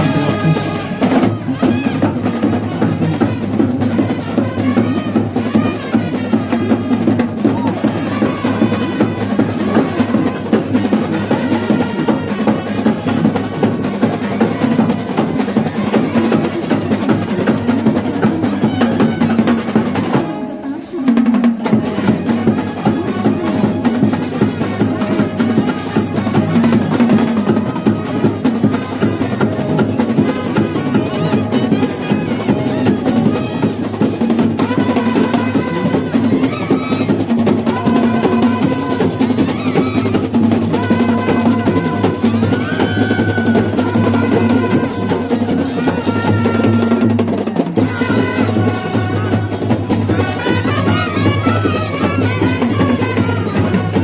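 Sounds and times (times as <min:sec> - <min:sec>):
drum ensemble fast rhythm: 0:00.0 - 0:54.0
wind instrument held notes: 0:00.0 - 0:54.0.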